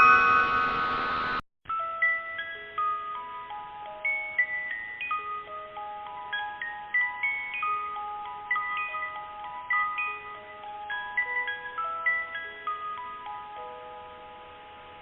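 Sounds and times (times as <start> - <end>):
bell-like chime melody: 0.0 - 15.0.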